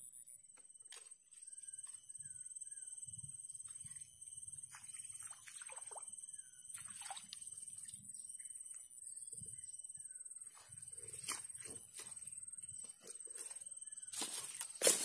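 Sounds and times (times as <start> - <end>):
faint chirps: 0.0 - 15.0.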